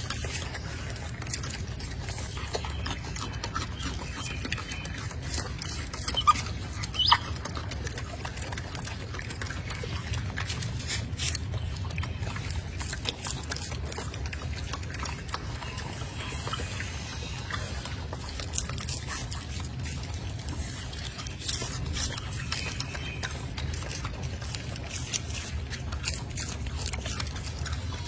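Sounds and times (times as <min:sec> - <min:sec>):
monkeys chewing fruit: 0:00.0 - 0:28.0
small wet clicks: 0:00.0 - 0:28.0
steady low hum: 0:00.0 - 0:28.0.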